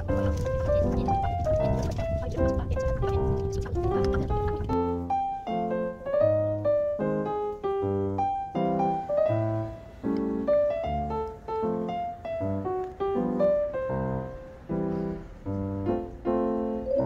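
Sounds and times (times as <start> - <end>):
light piano tune: 0.0 - 17.0.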